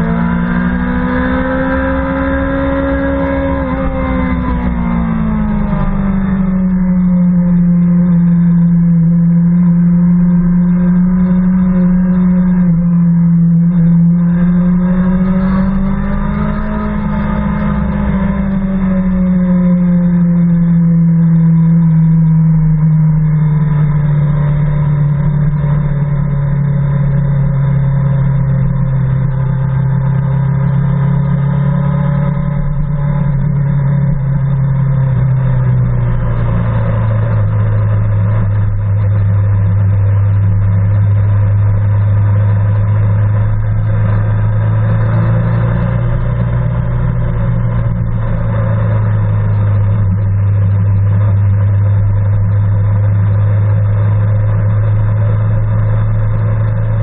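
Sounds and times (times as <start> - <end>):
motorcycle engine running at low revs: 0.0 - 57.0.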